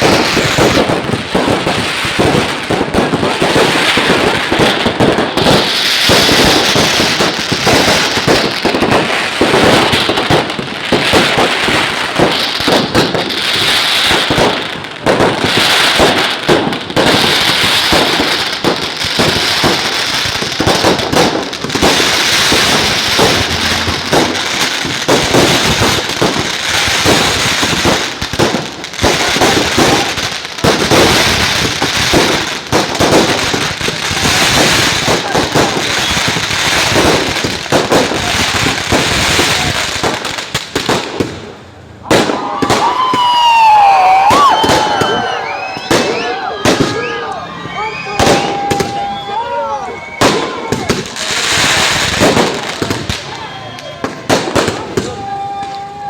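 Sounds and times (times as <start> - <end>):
fireworks and firecrackers banging: 0.0 - 56.0.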